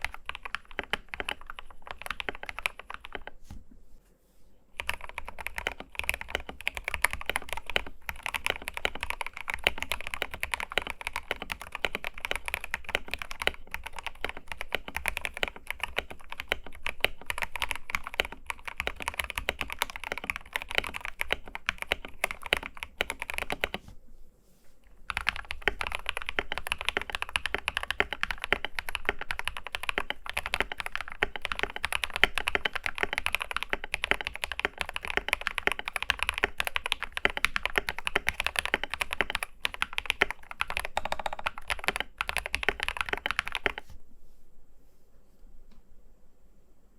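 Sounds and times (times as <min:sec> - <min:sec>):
fast mechanical keyboard typing: 0:00.0 - 0:03.4, 0:04.8 - 0:23.8, 0:25.1 - 0:43.9.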